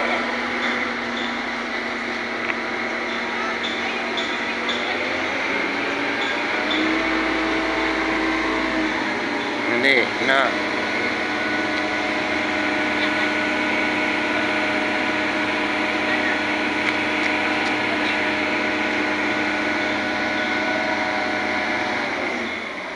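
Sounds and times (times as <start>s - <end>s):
crane engine running: 0.0s - 22.9s
mechanical whine: 0.0s - 22.9s.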